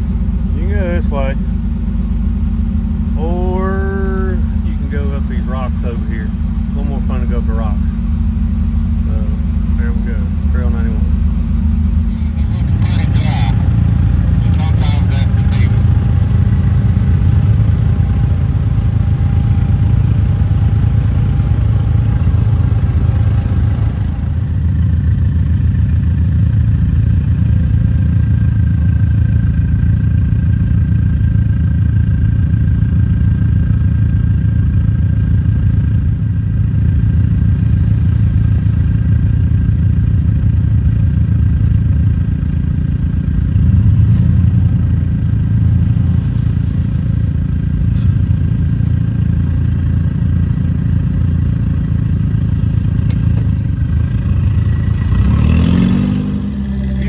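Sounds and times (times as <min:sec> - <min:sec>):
truck engine low drone: 0:00.0 - 0:57.0.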